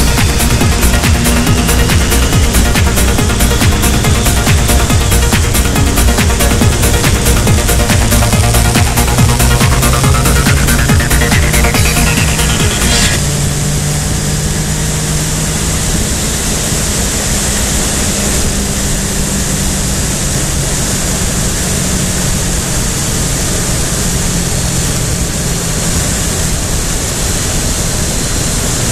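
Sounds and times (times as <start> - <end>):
motorcycle engine humming: 0.0 - 28.9.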